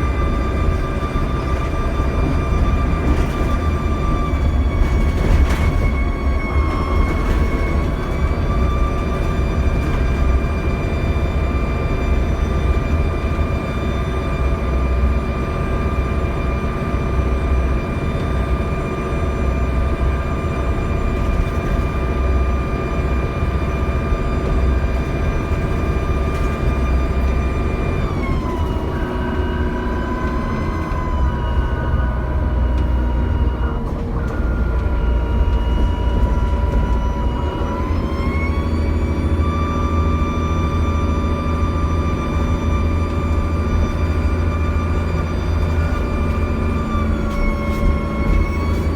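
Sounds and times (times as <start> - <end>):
bus turbo whine: 0.0 - 48.9
low diesel engine rumble: 0.0 - 48.9.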